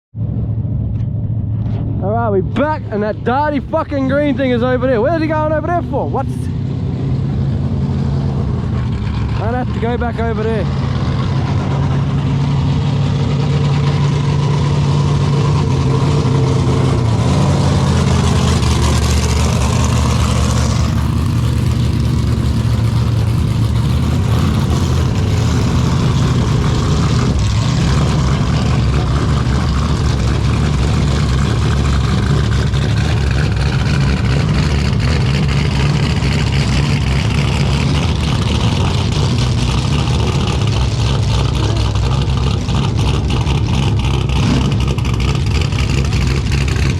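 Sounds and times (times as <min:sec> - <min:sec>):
car engine running loudly: 0:00.1 - 0:46.9.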